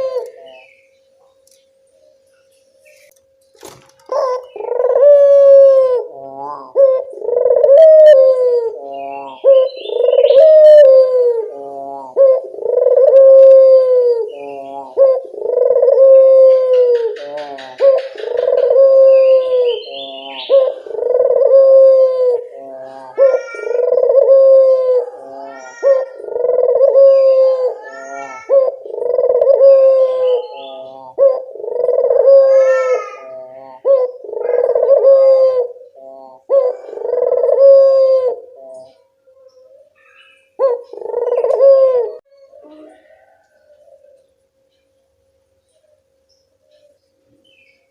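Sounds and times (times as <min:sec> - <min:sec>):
doves cooing: 0:00.0 - 0:00.8, 0:04.0 - 0:44.4.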